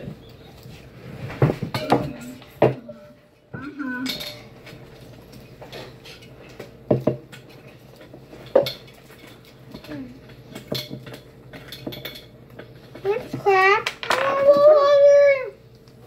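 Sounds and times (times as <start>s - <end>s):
dishes and utensils clinking: 0.0s - 14.7s.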